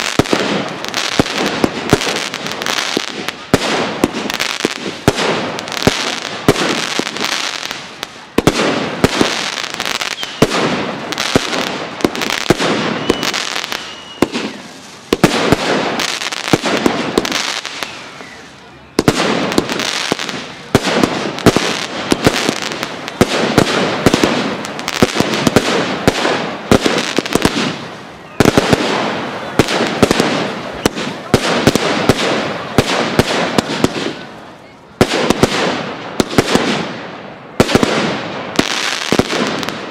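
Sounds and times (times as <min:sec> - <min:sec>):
fireworks bursting: 0:00.0 - 0:39.9
fireworks crackling: 0:00.0 - 0:39.9.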